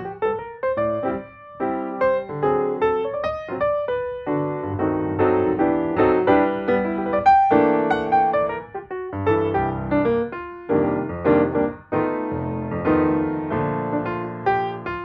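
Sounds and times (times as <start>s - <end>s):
lively piano chords: 0.0s - 15.0s.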